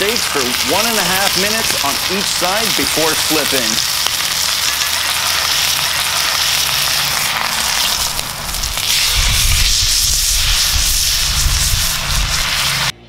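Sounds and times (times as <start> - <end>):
steak sizzling in a pan: 0.0 - 12.9.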